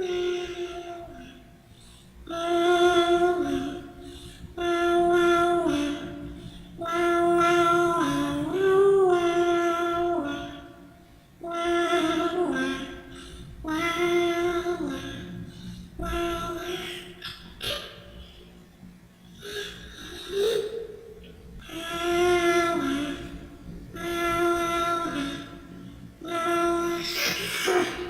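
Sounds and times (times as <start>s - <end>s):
person singing slow tune: 0.0s - 18.5s, 19.3s - 28.0s.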